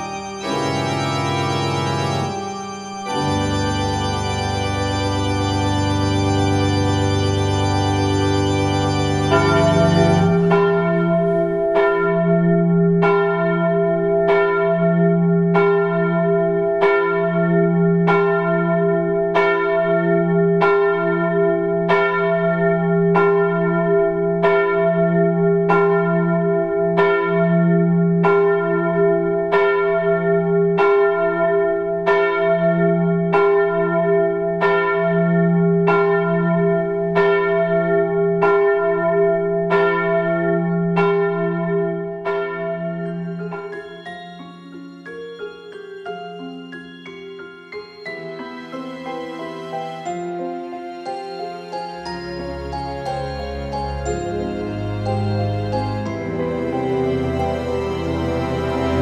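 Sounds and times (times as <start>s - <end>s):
large church bell tolling: 0.0s - 59.0s.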